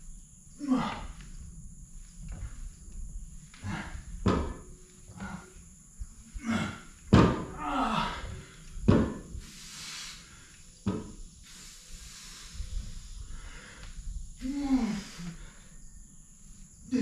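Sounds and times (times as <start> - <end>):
effortful breathing: 0.6 - 7.0, 7.6 - 17.0.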